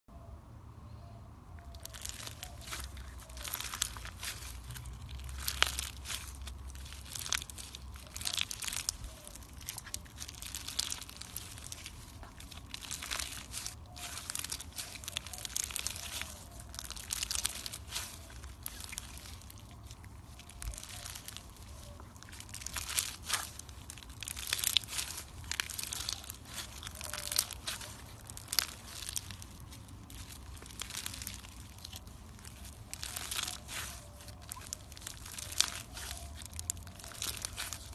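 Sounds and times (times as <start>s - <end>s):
slime crackling and popping: 1.6s - 37.9s.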